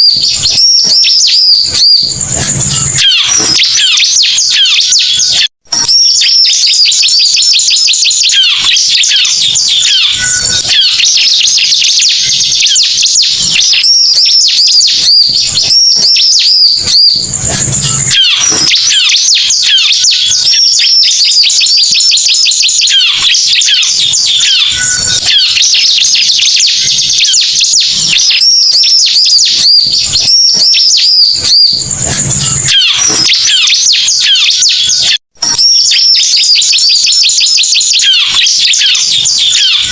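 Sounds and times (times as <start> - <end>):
high-pitched bird chirps and trills: 0.0 - 39.9
low buzzy bird call: 0.0 - 39.9.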